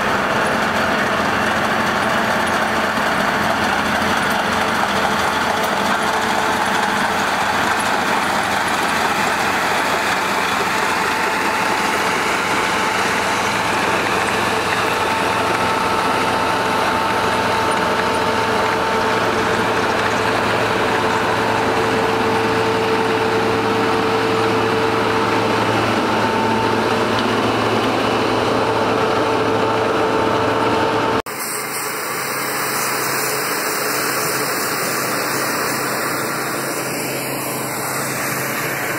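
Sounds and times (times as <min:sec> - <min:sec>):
constant machine whine: 0:00.0 - 0:38.9
construction machine engine running: 0:00.0 - 0:38.9.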